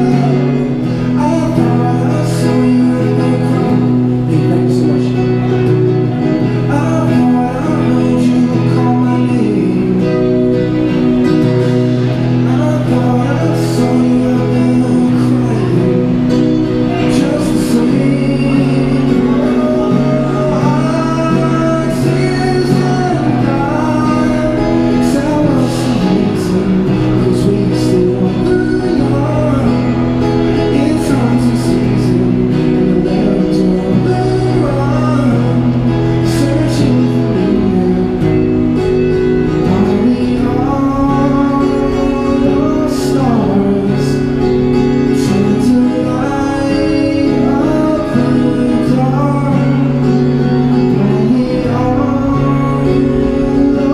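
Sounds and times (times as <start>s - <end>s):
acoustic guitar: 0.0s - 53.9s
man singing into microphone: 0.0s - 53.9s.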